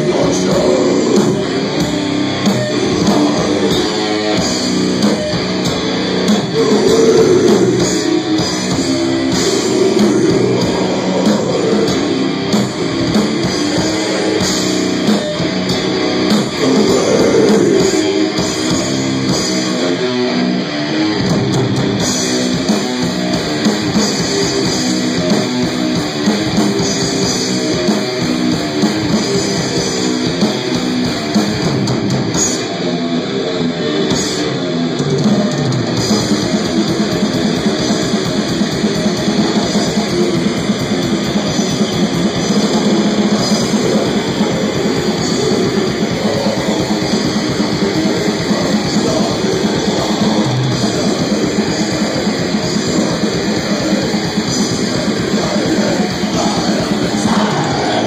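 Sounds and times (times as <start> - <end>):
distorted electric guitars: 0.0 - 58.0
drum kit: 0.0 - 58.0.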